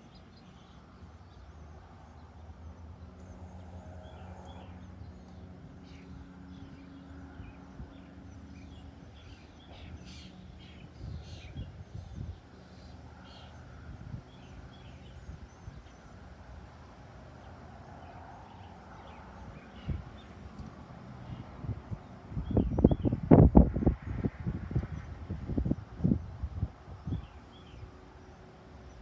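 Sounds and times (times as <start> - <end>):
small birds chirping: 0.0 - 16.4, 17.3 - 24.2
low hum: 0.0 - 29.0.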